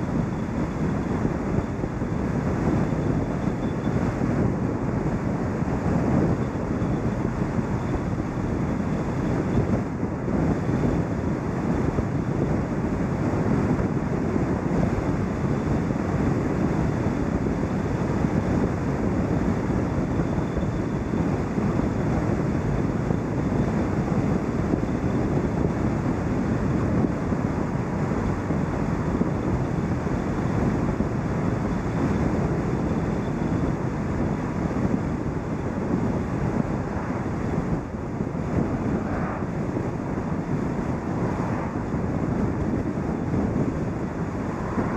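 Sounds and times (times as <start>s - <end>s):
car road noise: 0.0s - 44.9s
wind rushing over microphone: 0.0s - 44.9s.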